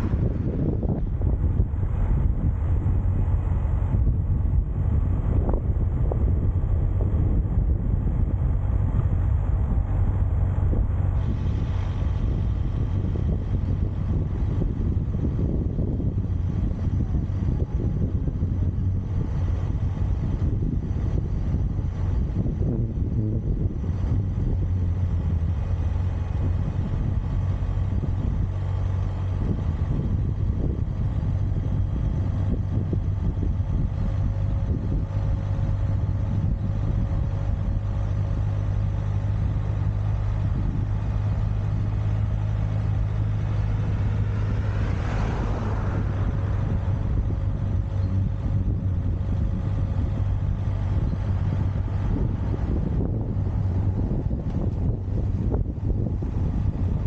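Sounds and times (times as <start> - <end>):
engine drone: 0.0 - 57.0.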